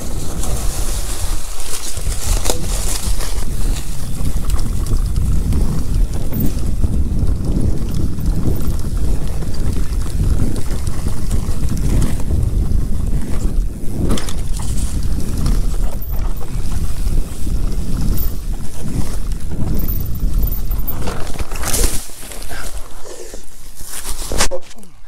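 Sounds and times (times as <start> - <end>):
mountain bike rumbling and rattling: 0.0 - 24.4
wind buffeting microphone: 0.0 - 24.4.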